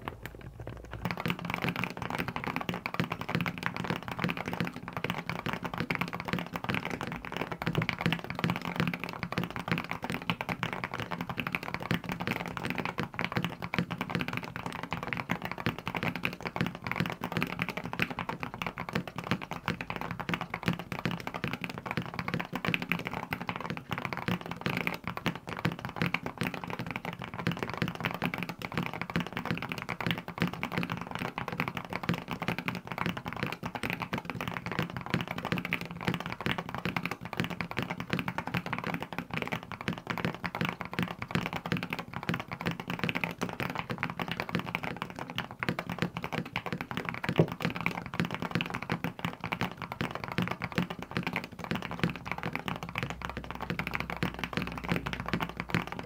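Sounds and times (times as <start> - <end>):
fast typing on mechanical keyboard: 0.0 - 56.0.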